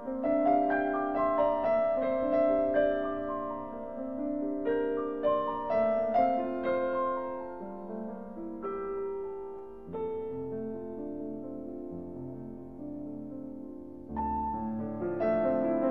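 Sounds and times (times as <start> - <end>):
gentle solo piano piece: 0.0 - 15.9.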